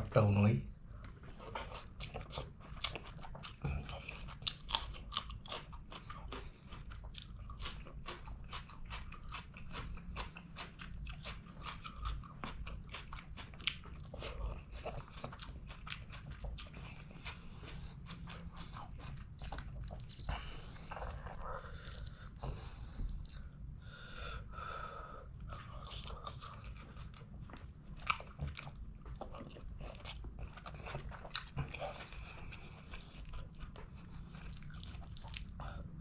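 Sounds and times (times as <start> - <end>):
man chewing and crunching: 0.0 - 36.0.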